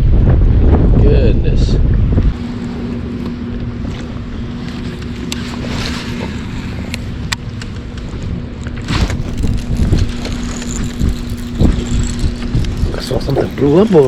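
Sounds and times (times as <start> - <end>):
steady low hum: 0.0 - 14.0
wind gusting across microphone: 0.0 - 14.0.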